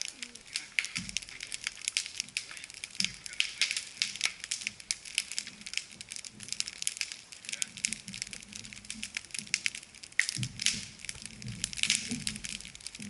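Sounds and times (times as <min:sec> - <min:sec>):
campfire crackling and snapping: 0:00.0 - 0:13.0.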